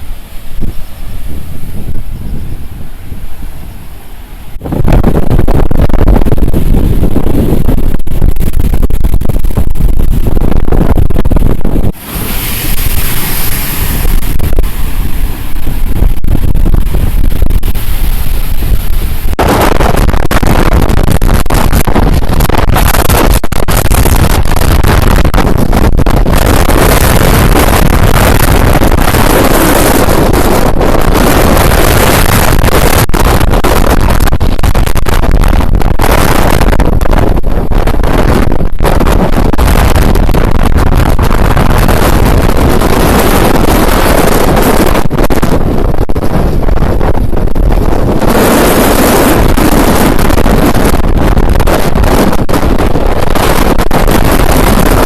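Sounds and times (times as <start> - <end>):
strong wind blasting microphone: 0.0 - 55.0.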